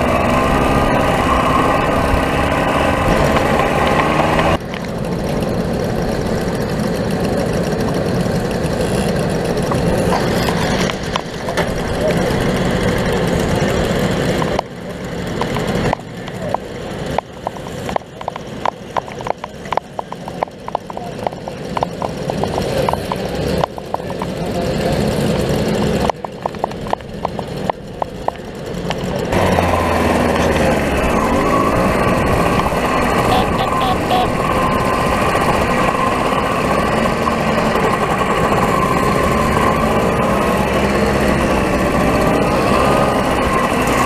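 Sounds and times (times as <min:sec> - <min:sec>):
mopeds pulling away: 0:00.0 - 0:44.0
mopeds idling: 0:04.6 - 0:44.0.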